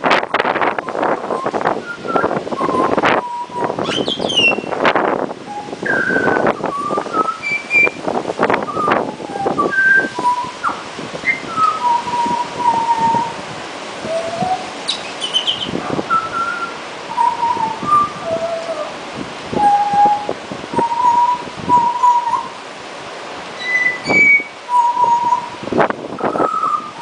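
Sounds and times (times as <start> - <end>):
bird singing flute-like whistles: 0.8 - 4.8, 5.5 - 8.0, 8.6 - 13.4, 14.0 - 18.9, 19.6 - 22.6, 23.6 - 27.0.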